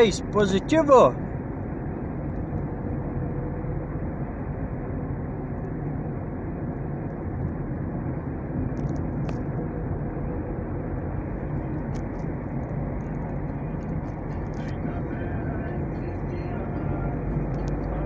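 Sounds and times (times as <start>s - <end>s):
car interior driving rumble: 0.0s - 18.0s.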